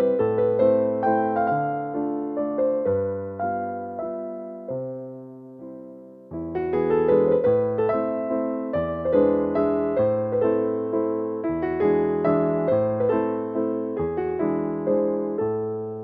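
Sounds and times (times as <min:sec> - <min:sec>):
piano waltz: 0:00.0 - 0:16.0.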